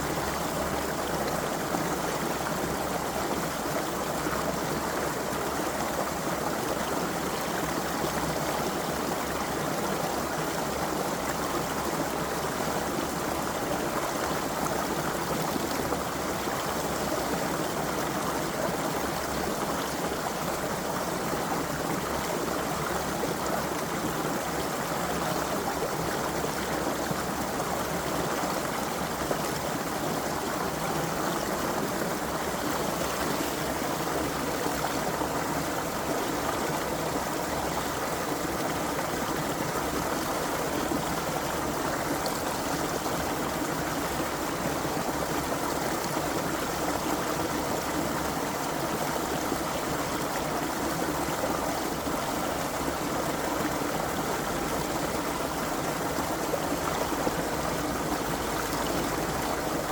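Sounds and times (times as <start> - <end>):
creek water babbling over stones: 0.0 - 59.9.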